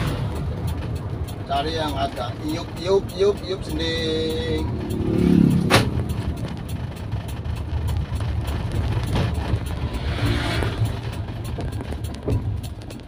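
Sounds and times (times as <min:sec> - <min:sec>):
car engine and road drone: 0:00.0 - 0:13.0.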